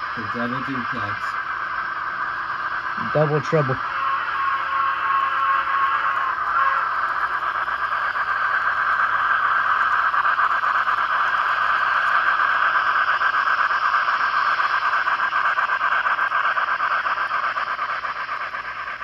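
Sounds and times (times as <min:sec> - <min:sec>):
model train running past: 0:00.0 - 0:19.0.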